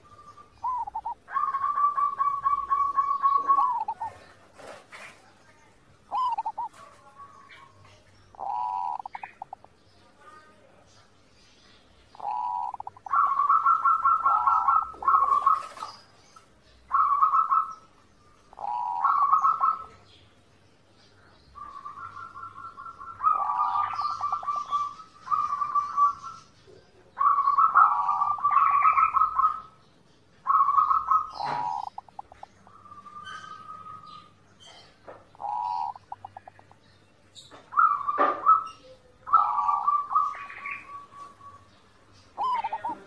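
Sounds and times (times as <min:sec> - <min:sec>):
dove cooing: 0:00.0 - 0:05.2, 0:06.1 - 0:09.8, 0:12.1 - 0:20.2, 0:21.6 - 0:29.8, 0:30.4 - 0:43.0.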